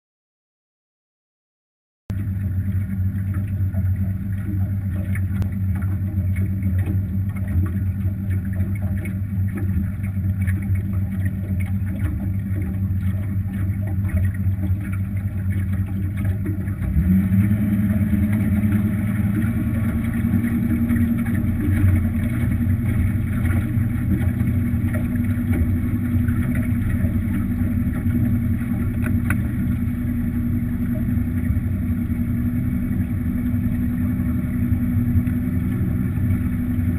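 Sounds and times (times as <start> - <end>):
outboard engine revving: 2.1 - 36.9.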